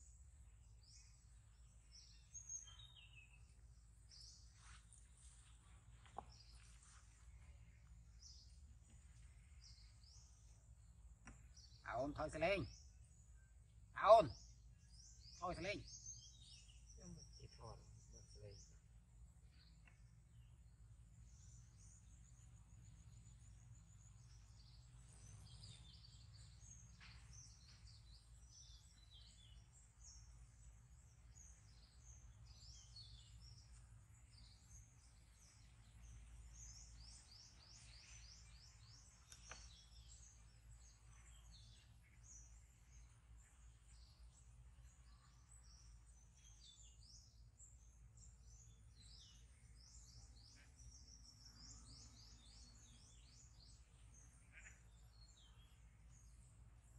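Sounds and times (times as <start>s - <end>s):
low steady hum: 0.0s - 56.9s
small birds chirping: 0.0s - 56.9s.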